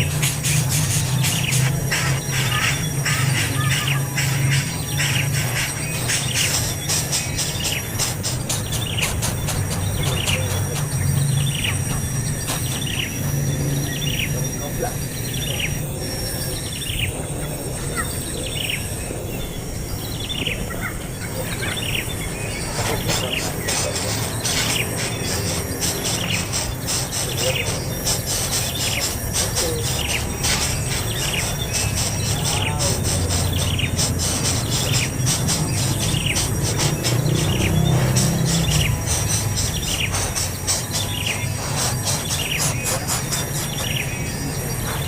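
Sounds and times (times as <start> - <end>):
fast-pulsing insect trill: 0.0 - 45.0.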